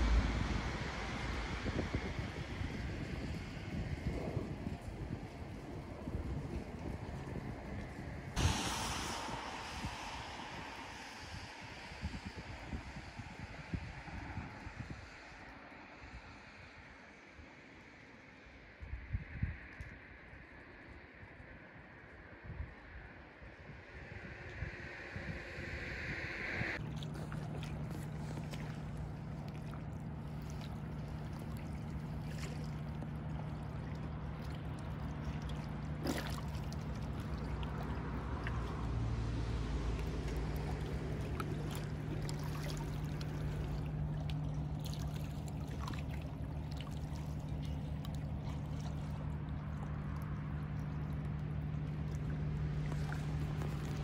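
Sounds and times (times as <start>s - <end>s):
water lapping and trickling: 0.0s - 26.1s, 26.8s - 54.0s
steady low hum: 0.0s - 54.0s.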